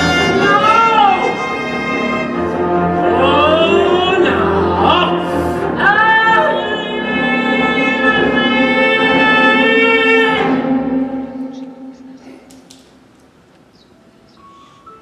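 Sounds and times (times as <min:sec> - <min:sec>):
person singing: 0:00.0 - 0:12.6
orchestra playing: 0:00.0 - 0:12.8.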